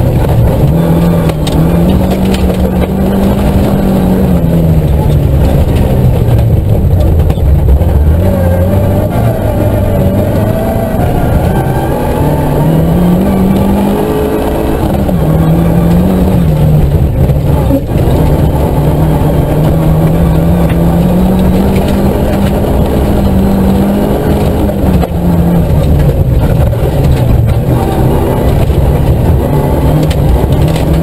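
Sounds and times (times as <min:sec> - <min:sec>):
car engine pulling hard: 0:00.0 - 0:31.0.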